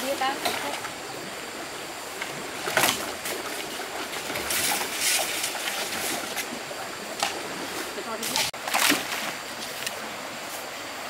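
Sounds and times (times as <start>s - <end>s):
running water hiss: 0.0s - 11.0s
water splashing: 0.0s - 11.0s.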